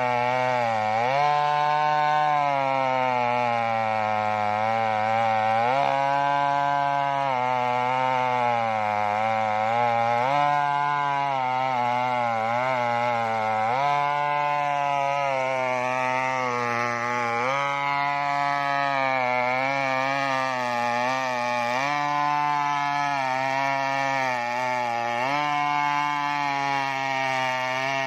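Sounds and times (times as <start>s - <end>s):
chainsaw cutting through log: 0.0s - 28.0s.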